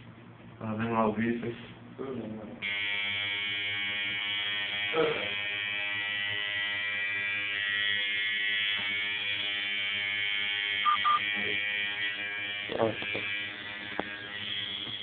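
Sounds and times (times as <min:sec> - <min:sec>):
tattoo machine buzzing: 0:02.6 - 0:15.0.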